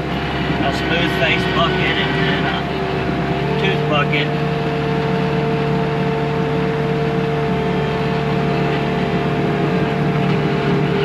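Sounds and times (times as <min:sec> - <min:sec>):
diesel engine running: 0:00.0 - 0:11.0
steady whine: 0:00.0 - 0:11.0.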